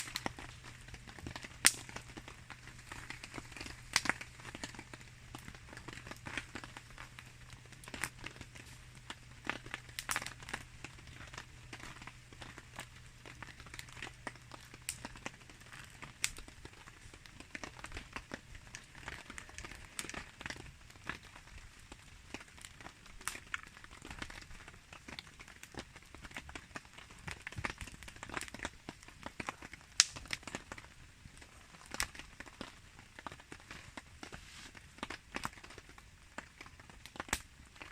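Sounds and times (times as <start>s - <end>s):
campfire crackling and popping: 0.0s - 37.9s
soft patter of rain: 0.0s - 37.9s.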